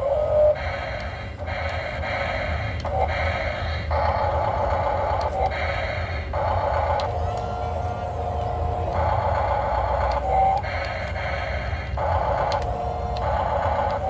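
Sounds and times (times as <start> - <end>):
electric motors whirring: 0.0 - 14.0
steady low hum: 0.0 - 14.0.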